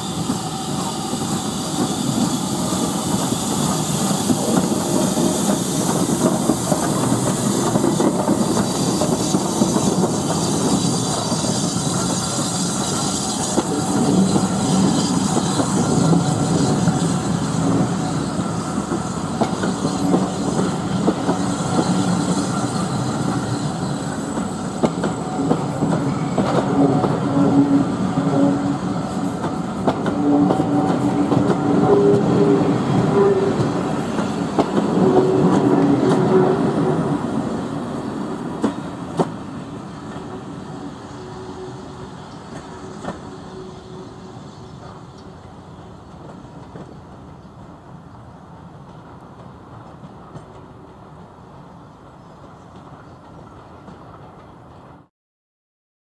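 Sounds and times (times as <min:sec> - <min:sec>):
steam train rolling past: 0:00.0 - 0:55.1.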